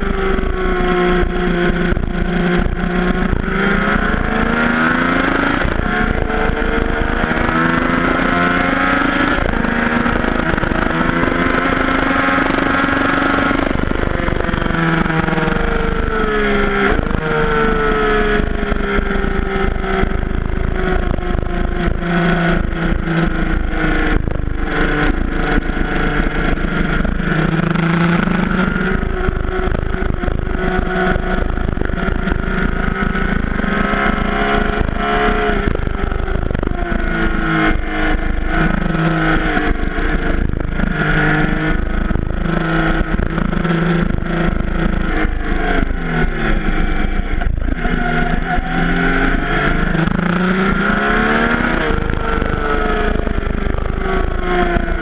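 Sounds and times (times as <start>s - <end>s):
motorcycle engine revving: 0.0s - 55.0s
wind rumble on microphone: 0.0s - 55.0s.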